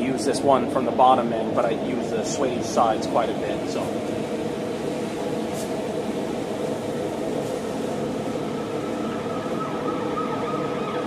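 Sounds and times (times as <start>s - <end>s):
forge rushing noise: 0.0s - 11.0s.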